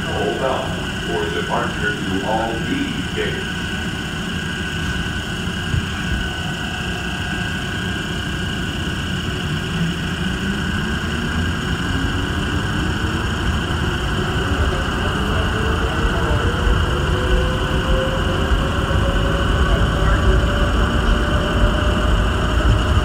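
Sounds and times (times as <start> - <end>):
train running rumble: 0.0 - 23.0
whine of electric motors: 0.0 - 23.0.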